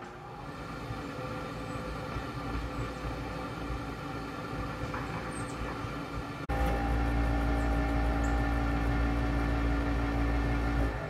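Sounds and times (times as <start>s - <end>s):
furnace fan motor humming: 0.1s - 11.0s.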